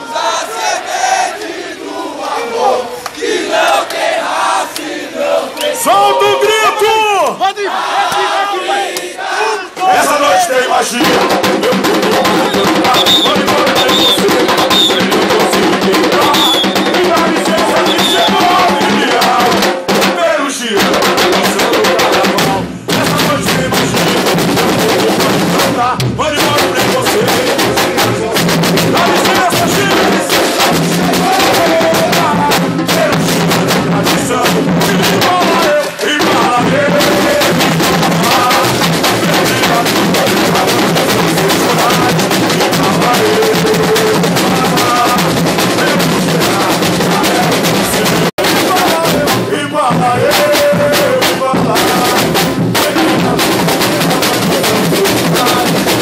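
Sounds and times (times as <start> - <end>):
samba drumming: 0.0 - 56.0.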